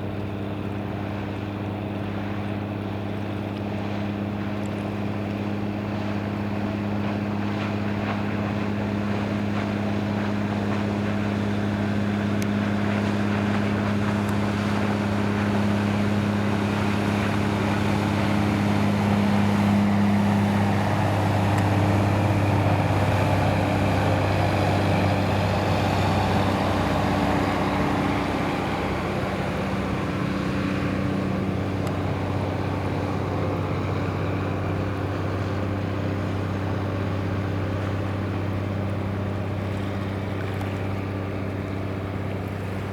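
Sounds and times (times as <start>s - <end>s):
marine diesel engine drone: 0.0s - 42.9s
water and wind rushing: 0.0s - 42.9s.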